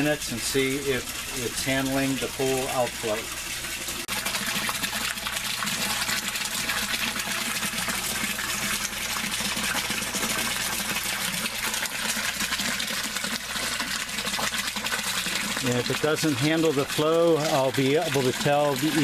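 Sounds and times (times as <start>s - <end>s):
water pouring into a fish tank: 0.0s - 19.0s.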